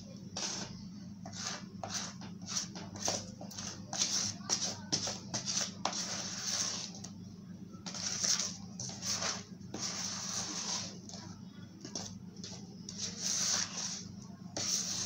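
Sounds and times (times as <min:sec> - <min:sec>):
steady low hum: 0:00.0 - 0:15.0
spatula scraping plastic bowl: 0:00.4 - 0:07.1, 0:07.8 - 0:11.2, 0:11.8 - 0:15.0.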